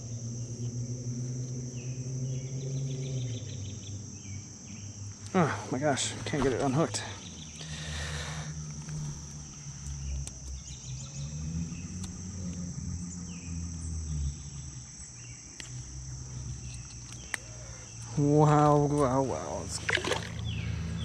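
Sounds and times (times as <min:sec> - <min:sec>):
insects trilling: 0:00.0 - 0:21.0
low uneven rumble: 0:00.0 - 0:21.0.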